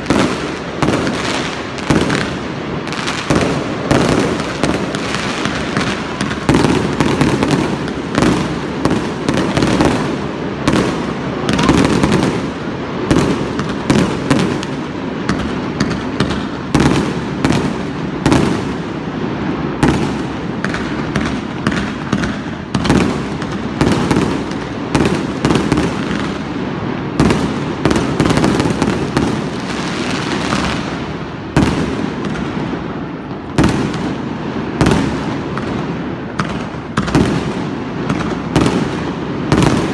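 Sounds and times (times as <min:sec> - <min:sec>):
fireworks bangs and crackles: 0:00.0 - 0:39.9
fireworks rumble: 0:00.0 - 0:39.9.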